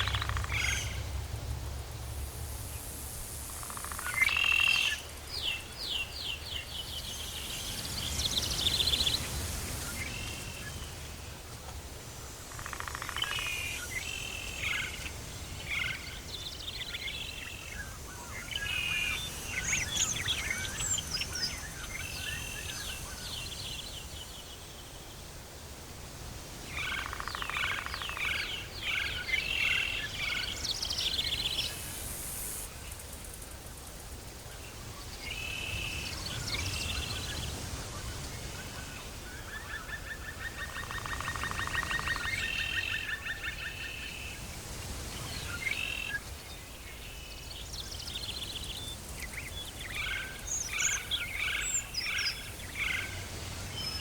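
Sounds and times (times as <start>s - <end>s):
birds chirping and trilling: 0.0s - 1.1s, 3.6s - 11.4s, 12.6s - 24.9s, 26.7s - 32.0s, 34.6s - 54.0s.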